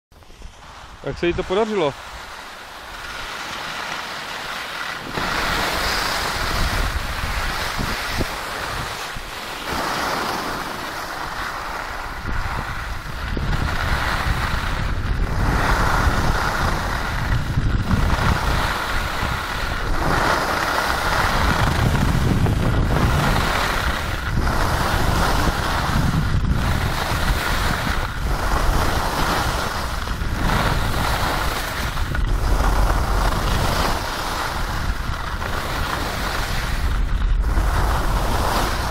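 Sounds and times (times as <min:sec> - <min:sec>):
wind rushing over microphone: 0:00.1 - 0:38.9
skis scraping on snow: 0:00.2 - 0:38.9.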